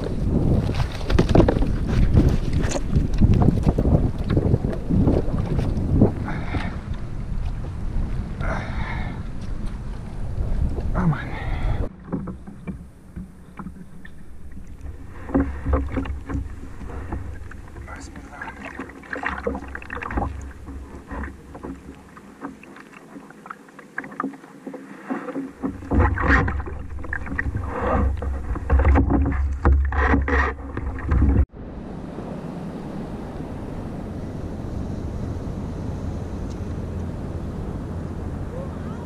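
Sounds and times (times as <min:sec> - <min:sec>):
wind rumble on microphone: 0:00.0 - 0:22.2, 0:25.6 - 0:39.0
water splashing: 0:00.0 - 0:31.5
wash of wind and water: 0:00.0 - 0:39.0.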